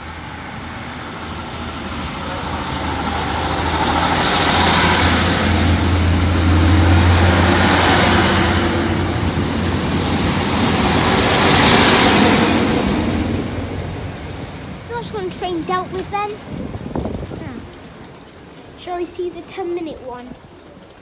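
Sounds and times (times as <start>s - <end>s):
diesel train engine droning: 0.0s - 19.3s
wheel and rail noise: 0.0s - 21.0s.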